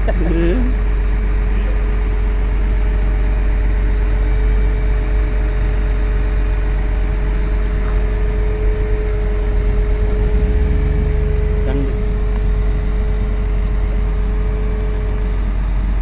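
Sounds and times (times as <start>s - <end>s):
diesel engine low rumble: 0.0s - 16.0s
thin steady whine: 0.0s - 16.0s.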